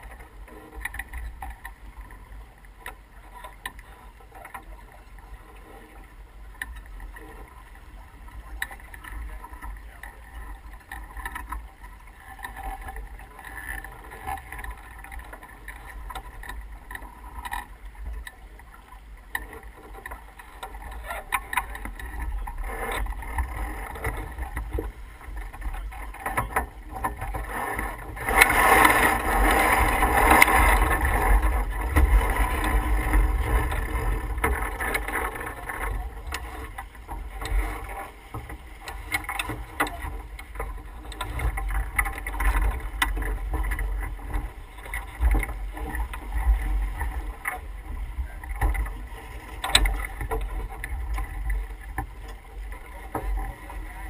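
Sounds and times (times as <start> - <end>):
water rushing along hull: 0.0 - 54.0.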